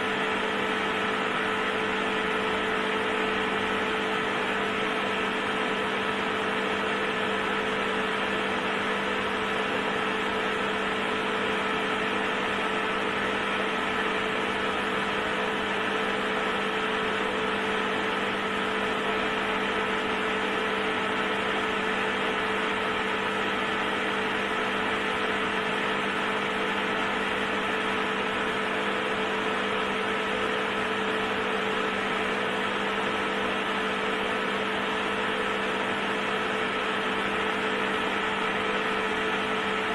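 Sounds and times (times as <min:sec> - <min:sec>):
induction heater humming: 0:00.0 - 0:39.9.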